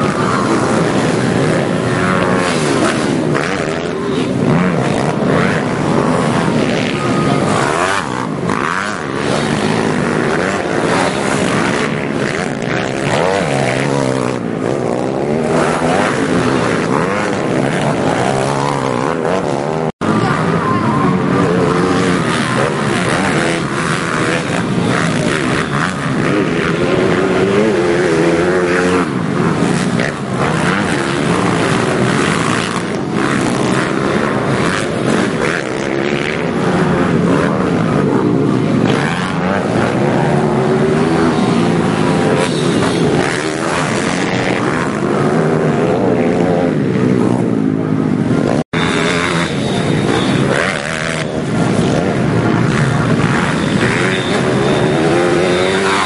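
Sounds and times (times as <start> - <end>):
motorbike engines revving: 0.0 - 56.0.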